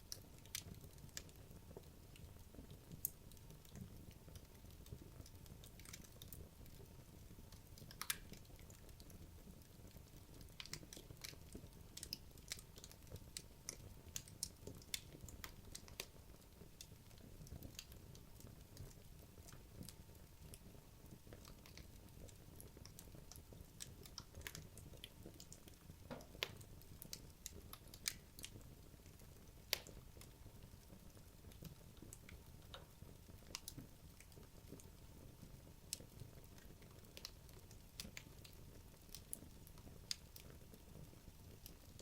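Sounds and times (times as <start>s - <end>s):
low steady flame noise: 0.0s - 42.0s
wood logs crackling in fireplace: 0.0s - 42.0s.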